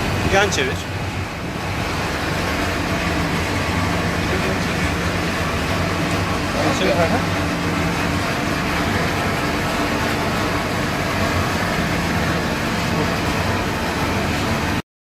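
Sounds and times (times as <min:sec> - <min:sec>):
machine hum: 0:00.0 - 0:14.8.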